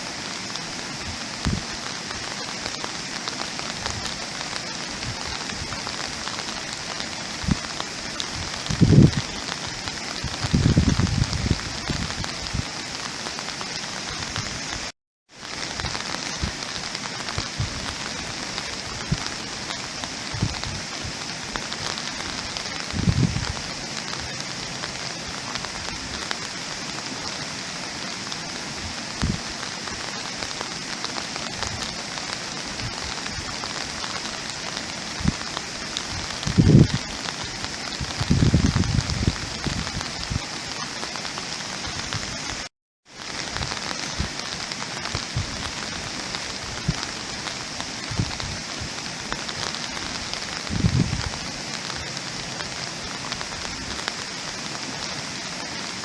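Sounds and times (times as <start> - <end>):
heavy raindrops thudding: 0.0 - 56.0
steady rain falling: 0.0 - 56.0.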